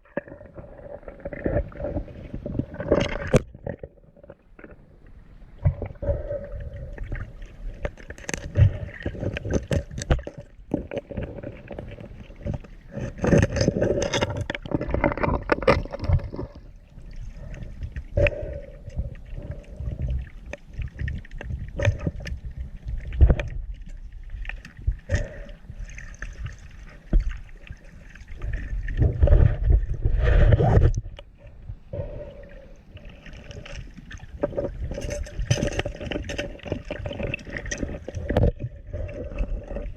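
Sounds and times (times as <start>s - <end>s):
low underwater rumble: 0.0s - 39.9s
water sloshing and gurgling: 0.0s - 39.9s.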